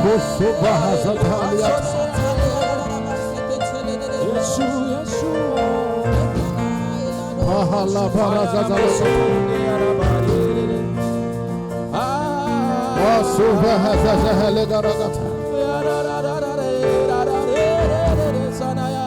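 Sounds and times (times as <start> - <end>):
person singing: 0.0 - 19.0
soft worship music: 0.0 - 19.0.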